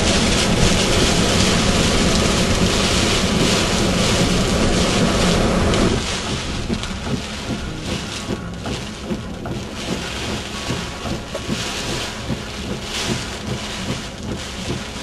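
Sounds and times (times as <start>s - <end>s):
heavy rain: 0.0s - 15.0s
tyres on flooded road: 0.0s - 15.0s.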